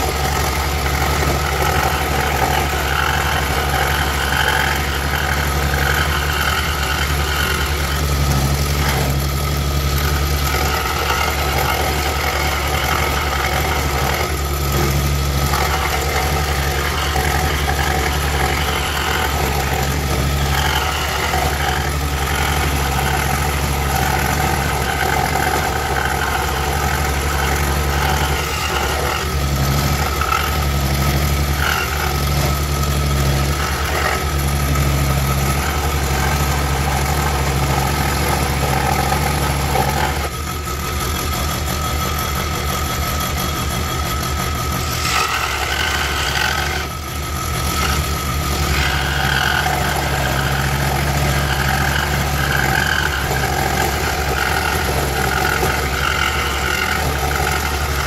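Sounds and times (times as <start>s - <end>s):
scroll saw cutting wood: 0.0s - 58.0s.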